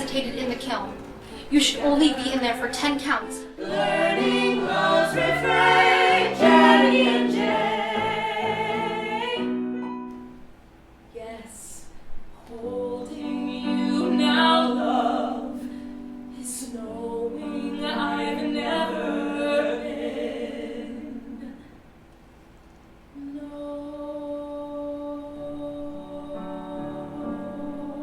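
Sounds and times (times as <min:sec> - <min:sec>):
voices singing in harmony: 0:00.0 - 0:09.9, 0:12.4 - 0:21.8, 0:23.2 - 0:28.0.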